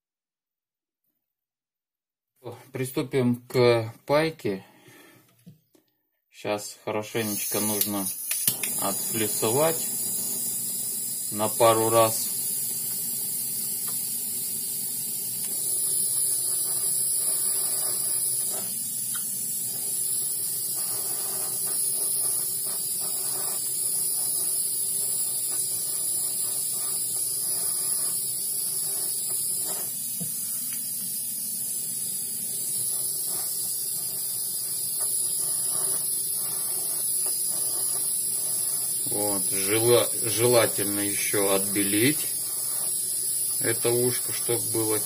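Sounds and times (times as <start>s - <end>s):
gas torch flame hissing: 7.1s - 45.0s.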